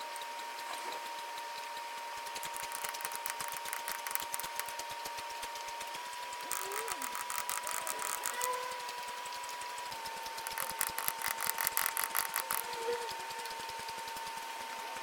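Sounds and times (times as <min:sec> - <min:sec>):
lathe whine and ticking: 0:00.0 - 0:15.0
tool cutting hiss: 0:02.2 - 0:14.2.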